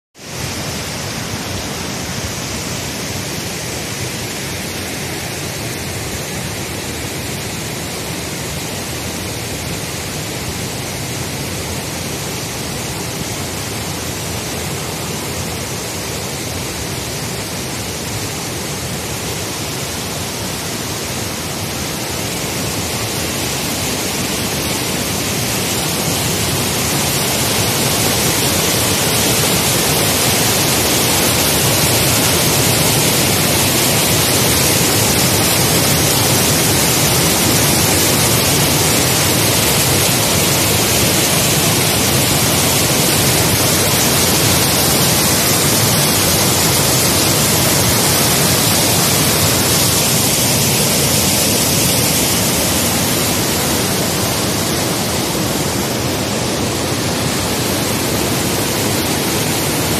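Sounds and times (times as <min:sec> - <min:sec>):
stream rushing over boulders: 0:00.2 - 0:59.9.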